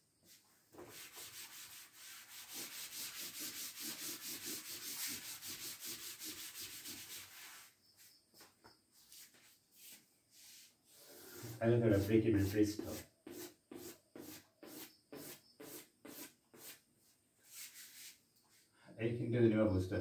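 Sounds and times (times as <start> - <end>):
cloth wiping chalkboard: 0.2 - 18.7.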